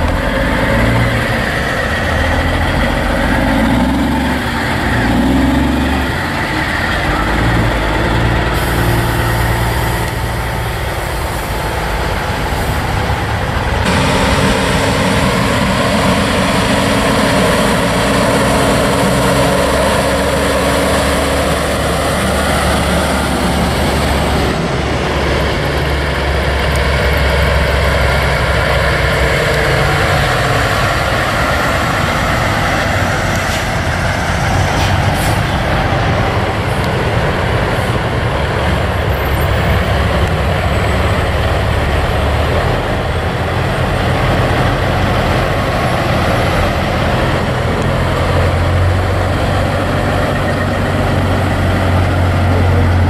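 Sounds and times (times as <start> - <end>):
truck diesel engines passing: 0.0 - 53.0.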